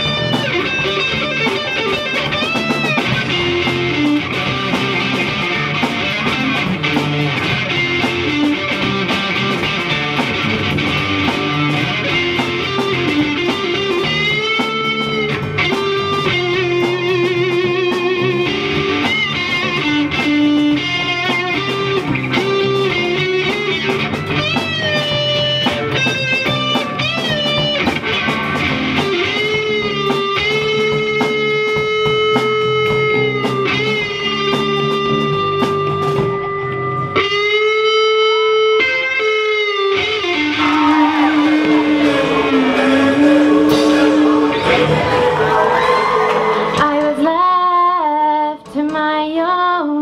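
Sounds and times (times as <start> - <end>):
drum kit: 0.0 - 38.0, 39.9 - 47.8
electric guitar bending notes: 0.0 - 48.2
bass guitar: 0.0 - 49.3.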